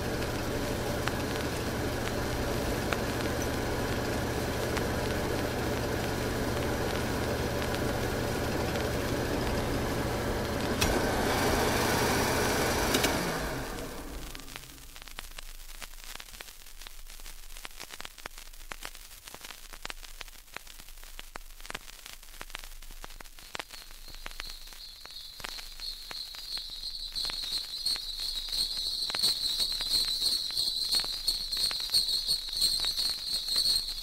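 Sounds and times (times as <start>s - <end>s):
crackling and clicking: 0.0s - 11.4s, 12.6s - 34.0s.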